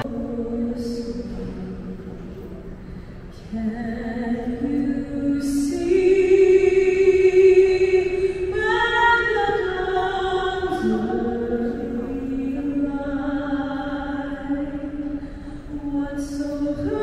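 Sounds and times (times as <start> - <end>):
person singing slow melody: 0.0 - 17.0.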